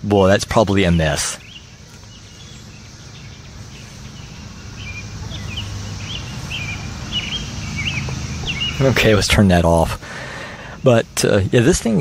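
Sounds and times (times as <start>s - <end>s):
low steady rumble: 0.0s - 12.0s
small birds chirping: 0.0s - 12.0s.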